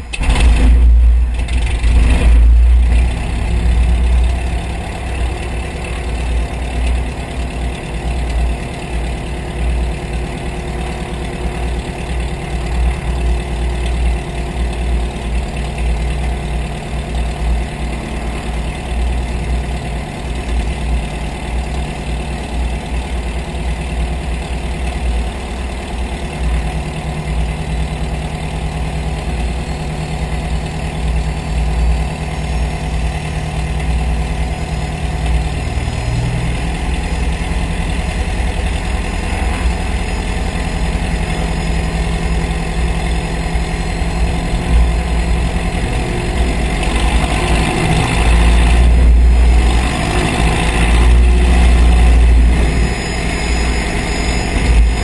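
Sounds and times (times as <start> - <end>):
aircraft piston engine and propeller: 0.0 - 55.0.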